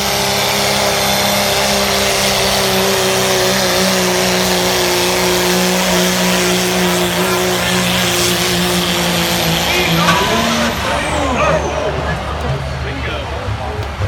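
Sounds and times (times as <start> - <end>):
diesel truck engine under load: 0.0 - 14.0.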